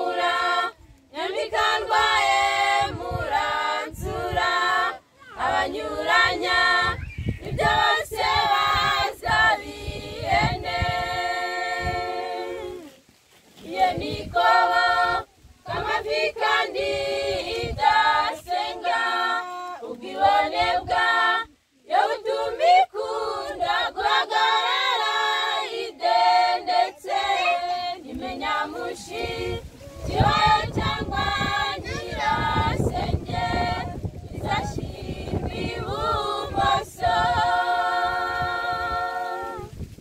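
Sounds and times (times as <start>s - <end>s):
women's choir singing a cappella: 0.0s - 13.0s, 13.6s - 40.0s.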